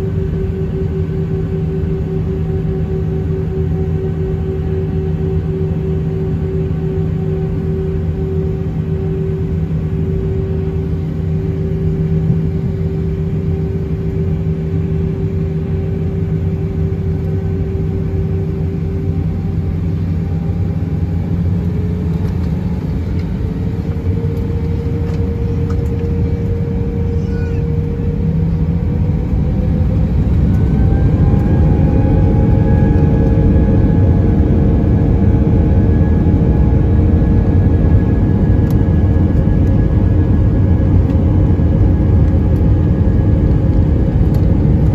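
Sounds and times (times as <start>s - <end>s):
jet engines rumbling and whining: 0.0s - 44.9s.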